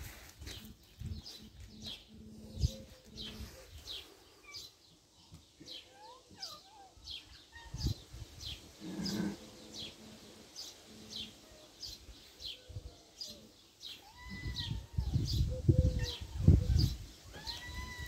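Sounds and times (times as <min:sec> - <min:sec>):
small birds chirping: 0:00.1 - 0:18.0.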